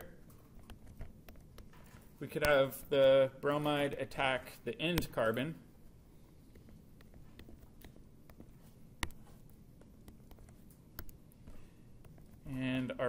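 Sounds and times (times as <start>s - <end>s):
stylus tapping tablet screen: 0.0s - 12.5s
low room hum: 0.0s - 13.0s.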